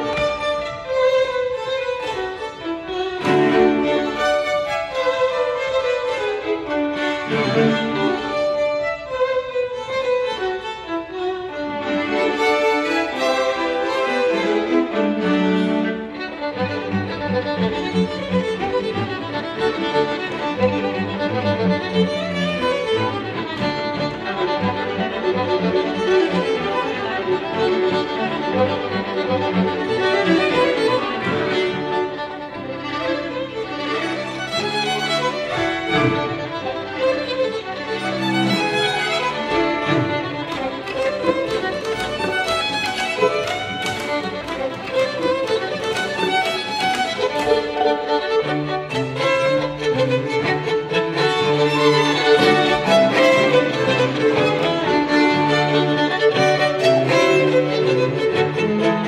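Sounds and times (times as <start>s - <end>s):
string quartet playing: 0.0s - 59.0s.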